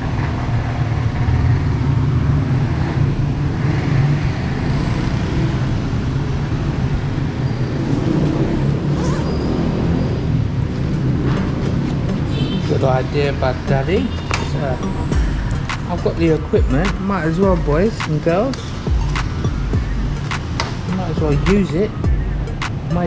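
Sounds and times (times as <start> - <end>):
motor vehicle rumbling: 0.0 - 23.0
road noise: 0.0 - 23.0.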